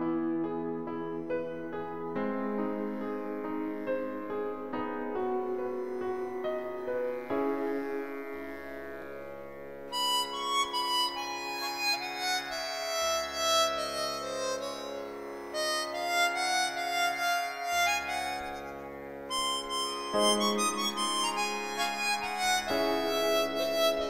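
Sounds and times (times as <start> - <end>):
reedy melody over low drone: 0.0 - 24.0.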